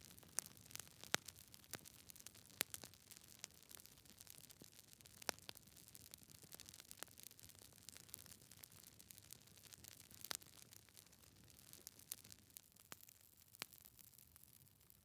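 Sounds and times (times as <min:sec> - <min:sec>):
wood logs crackling in fireplace: 0:00.0 - 0:14.6.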